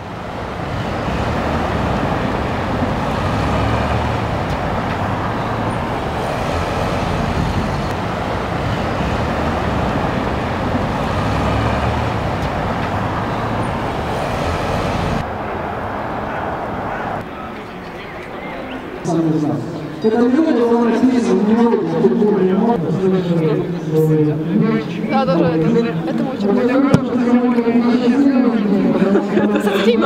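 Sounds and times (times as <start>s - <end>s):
street traffic passing: 0.0s - 30.0s.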